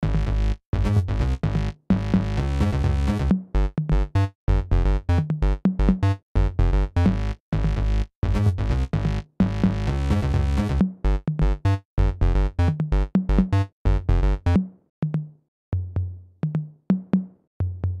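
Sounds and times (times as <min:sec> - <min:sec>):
electronic music with drum machine: 0:00.0 - 0:15.3.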